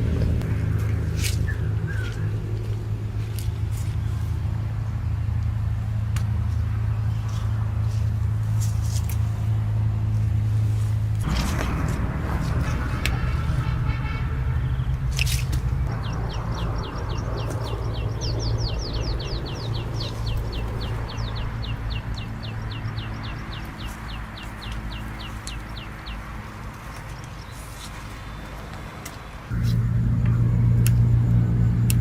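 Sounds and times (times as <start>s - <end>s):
steady low rumble: 0.0s - 28.2s, 29.3s - 32.0s.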